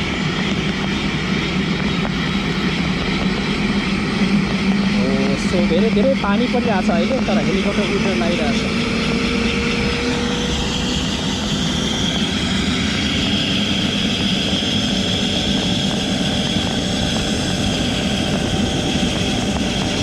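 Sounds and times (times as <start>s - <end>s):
helicopter turbine and rotor: 0.0s - 20.0s.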